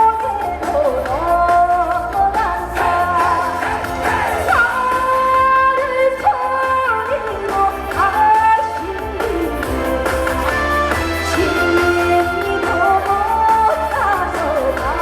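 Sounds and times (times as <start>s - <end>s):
instrumental accompaniment: 0.0s - 15.0s
woman singing: 0.0s - 15.0s.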